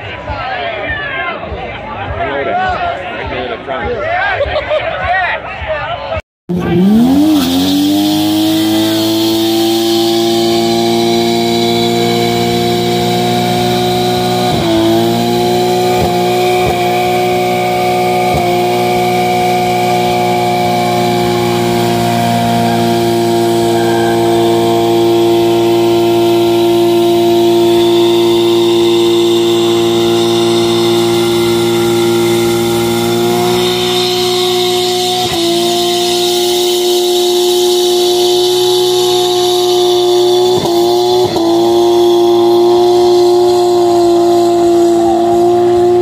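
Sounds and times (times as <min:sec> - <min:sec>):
car engine at high revs: 0:06.5 - 0:46.0.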